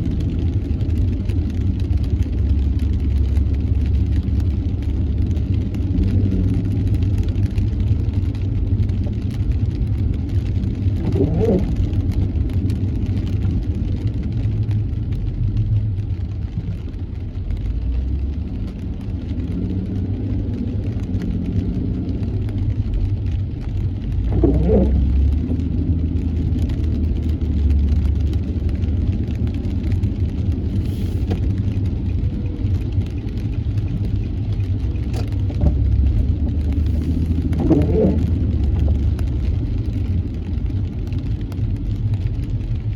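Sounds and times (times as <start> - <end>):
car driving on wet road: 0.0 - 42.9.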